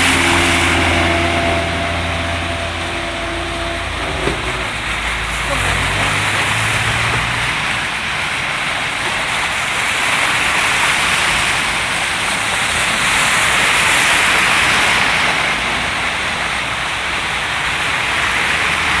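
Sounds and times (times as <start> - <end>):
tyres driving through floodwater: 0.0 - 19.0.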